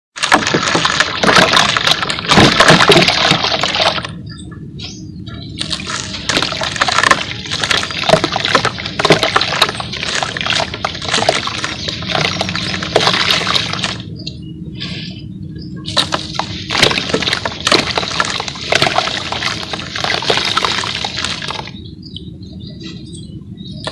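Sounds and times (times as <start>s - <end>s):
wet paste squelching and crackling: 0.1s - 4.2s, 4.8s - 15.0s, 15.6s - 22.2s.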